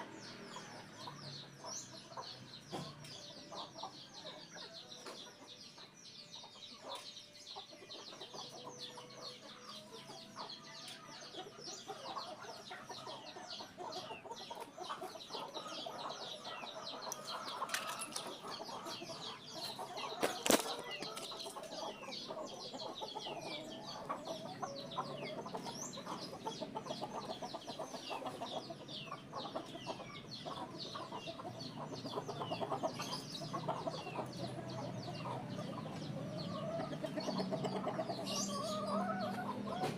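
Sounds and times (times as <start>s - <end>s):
birds chirping and clucking: 0.0s - 39.9s.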